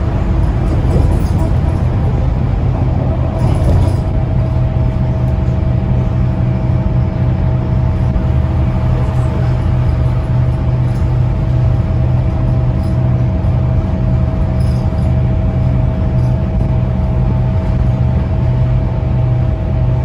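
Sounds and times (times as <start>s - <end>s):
bus engine drone: 0.0s - 20.0s
engine whine: 0.0s - 20.0s
tyre road noise: 0.0s - 20.0s.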